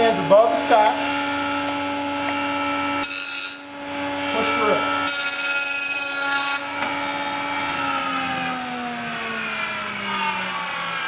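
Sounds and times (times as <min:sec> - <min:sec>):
jointer motor whining down: 0:01.1 - 0:11.0.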